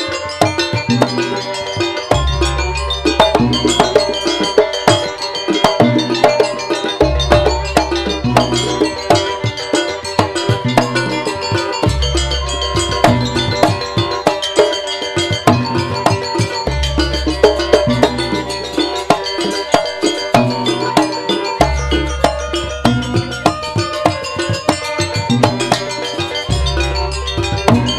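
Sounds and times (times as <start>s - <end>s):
gamelan music: 0.0s - 27.9s.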